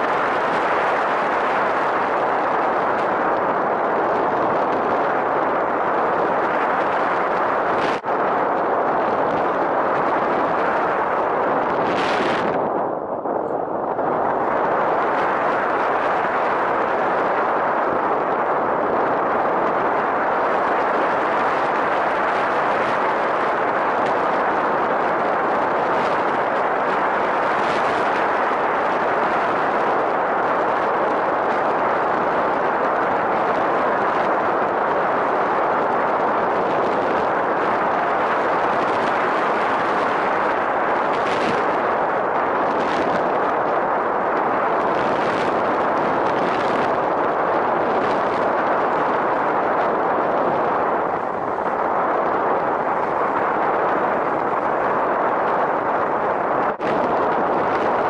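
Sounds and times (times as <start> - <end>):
airflow buffeting microphone: 0.0 - 58.0.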